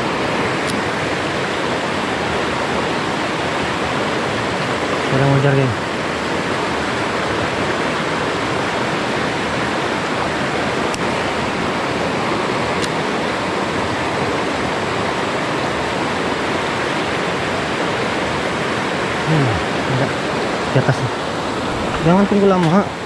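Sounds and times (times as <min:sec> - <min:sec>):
river rapids rushing over rocks: 0:00.0 - 0:23.0.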